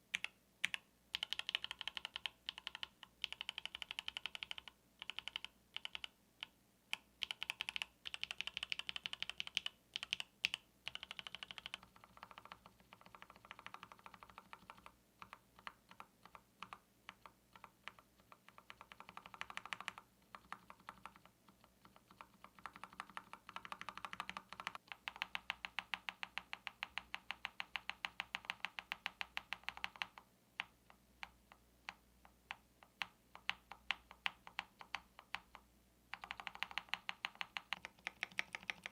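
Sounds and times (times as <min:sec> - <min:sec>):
mechanical keyboard keys clicking: 0:00.2 - 0:06.1, 0:07.2 - 0:30.2, 0:33.4 - 0:38.9.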